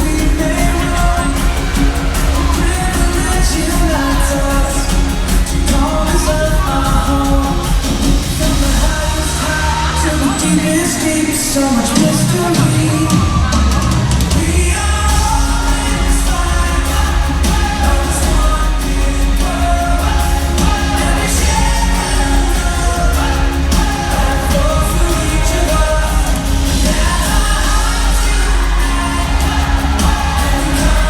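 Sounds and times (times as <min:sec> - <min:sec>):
heavy bass: 0:00.0 - 0:31.0
pop song with singing: 0:00.0 - 0:31.0.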